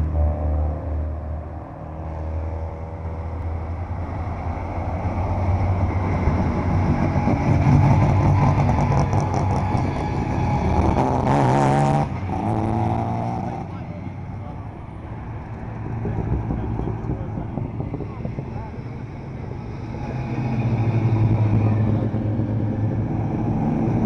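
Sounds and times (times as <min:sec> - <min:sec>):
race cars driving past: 0:00.0 - 0:24.0.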